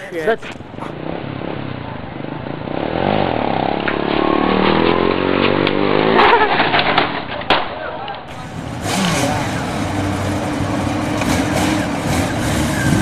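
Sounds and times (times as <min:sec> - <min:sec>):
motorbike engine revving hard: 0:00.8 - 0:06.7, 0:08.3 - 0:13.0.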